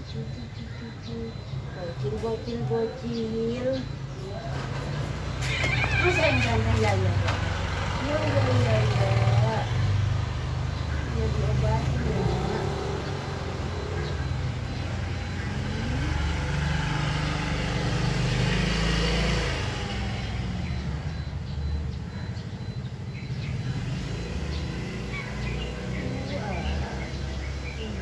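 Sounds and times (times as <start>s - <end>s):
vehicles passing with engine rumble: 0.0s - 28.0s.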